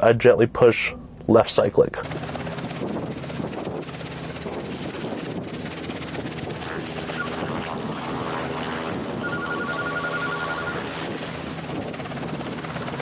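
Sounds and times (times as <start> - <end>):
helicopter hovering: 2.0 - 13.0.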